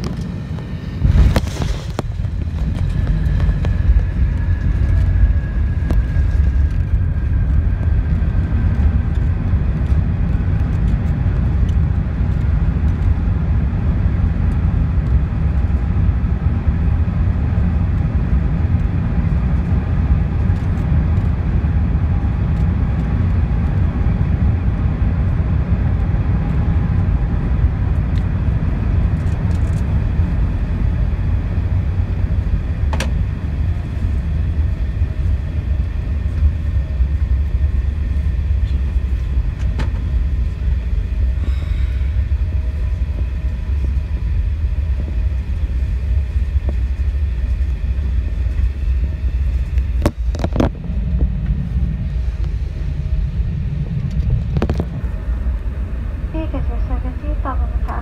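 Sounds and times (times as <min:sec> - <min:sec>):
faint engine whine: 0:00.0 - 0:58.0
heavy rumble of wheels and engines: 0:00.0 - 0:58.0.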